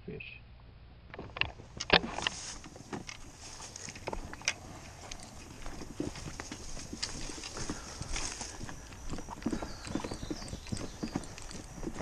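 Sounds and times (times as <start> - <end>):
footsteps on rocky ground: 1.2 - 12.0.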